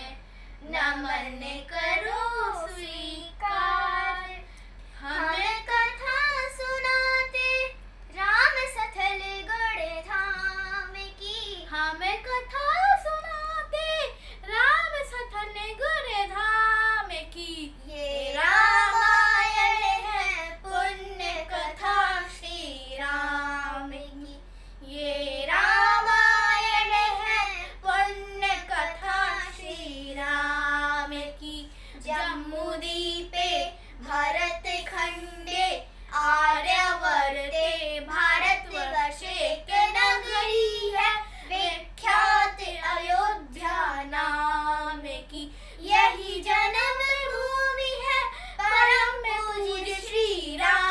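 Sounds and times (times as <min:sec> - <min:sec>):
children singing devotional song: 0:00.0 - 0:04.4, 0:05.0 - 0:13.8, 0:14.9 - 0:50.9.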